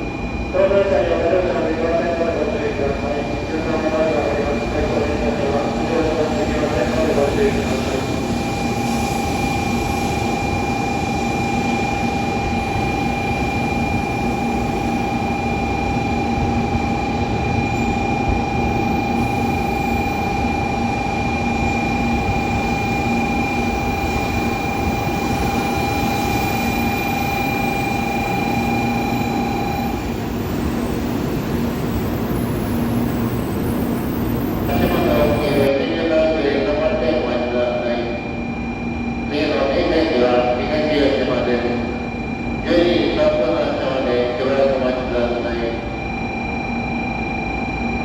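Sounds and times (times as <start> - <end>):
high whining tones: 0.0 - 35.7, 37.0 - 48.0
train rumble and hum: 0.0 - 46.9.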